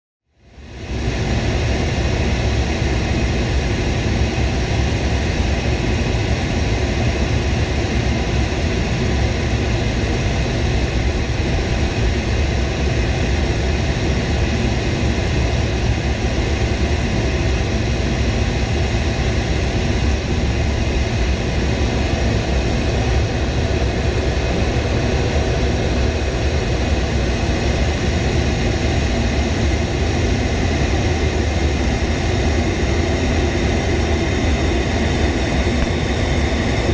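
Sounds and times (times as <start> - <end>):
jet engines droning in flight: 0.3 - 36.9.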